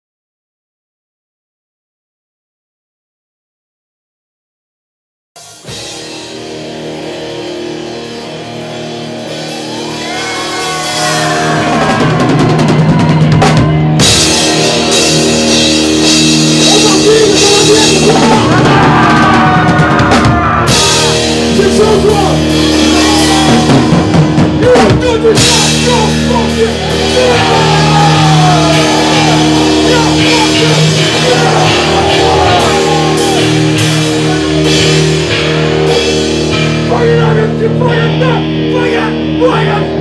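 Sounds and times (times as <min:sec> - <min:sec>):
bass: 0:05.4 - 0:40.0
distorted electric guitars: 0:05.4 - 0:40.0
drum kit: 0:05.4 - 0:40.0.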